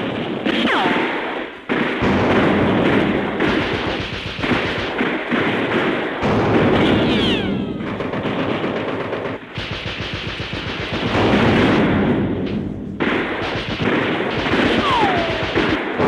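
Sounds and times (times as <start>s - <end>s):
artillery explosions: 0.0s - 16.0s
continuous gunfire: 0.0s - 16.0s.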